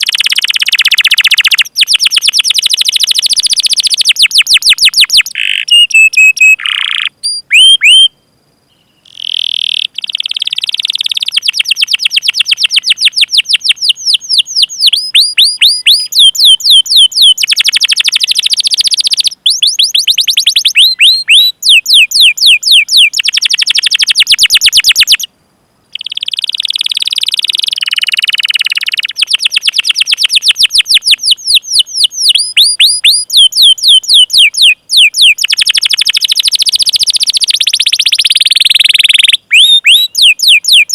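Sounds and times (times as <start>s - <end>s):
canary singing trills: 0.0s - 25.3s, 25.9s - 40.9s.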